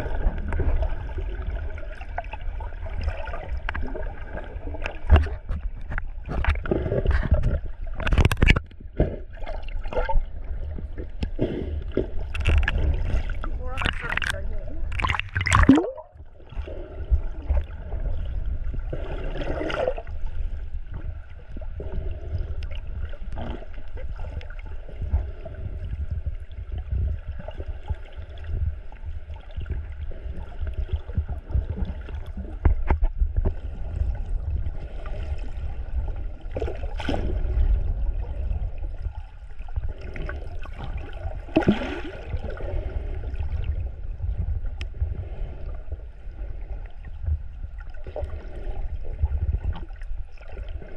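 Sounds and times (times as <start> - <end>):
underwater rumble with gurgling: 0.0 - 50.9
water swishes: 0.0 - 50.9.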